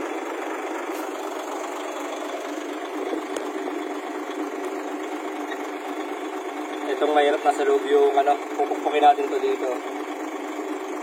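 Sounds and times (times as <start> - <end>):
crane engine idling: 0.0 - 11.0.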